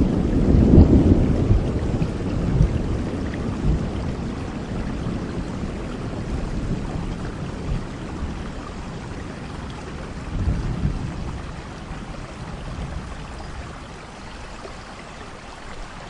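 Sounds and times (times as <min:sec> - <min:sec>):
thunder rumbling: 0:00.0 - 0:14.1
steady rain: 0:00.0 - 0:16.0.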